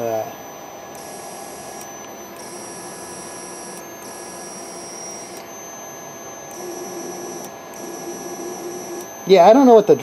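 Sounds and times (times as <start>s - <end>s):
stepper motor buzzing and whining: 0.0s - 10.0s.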